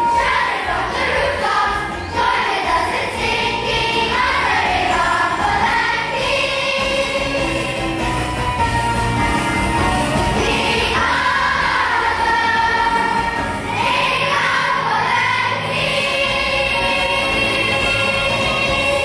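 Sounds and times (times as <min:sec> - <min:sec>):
choir singing a melody: 0:00.0 - 0:08.3, 0:10.3 - 0:19.0
dance music: 0:00.0 - 0:19.0.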